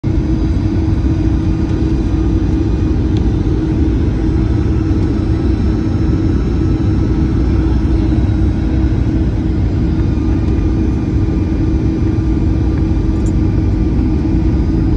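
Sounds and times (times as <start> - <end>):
airplane cabin rumble: 0.0 - 14.9.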